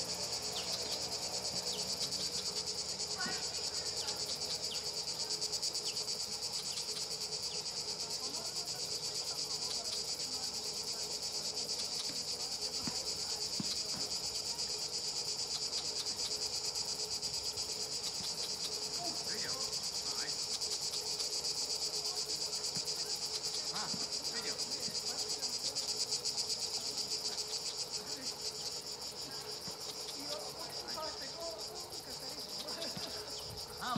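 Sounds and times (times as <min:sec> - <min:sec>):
insect chorus buzzing: 0:00.0 - 0:33.9.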